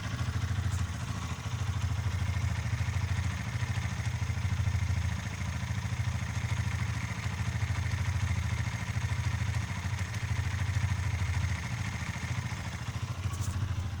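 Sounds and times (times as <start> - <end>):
faint engine clatter: 0.0 - 14.0
motorcycle engine idling: 0.0 - 14.0.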